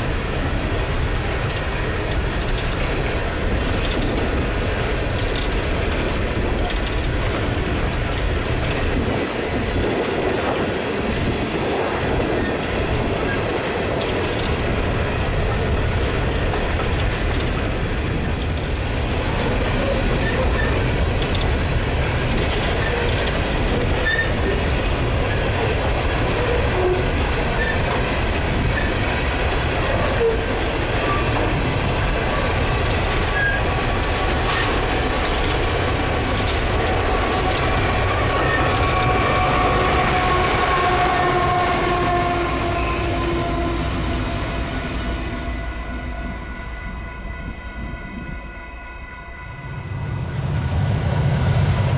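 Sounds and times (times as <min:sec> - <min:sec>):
train cars clicking over rail joints: 0:00.0 - 0:45.2.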